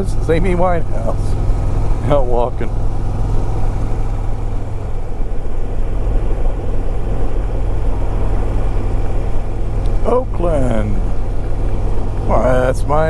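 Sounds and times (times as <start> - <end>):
motorcycle engine cruising: 0.0 - 13.0
road and wind rush: 0.0 - 13.0.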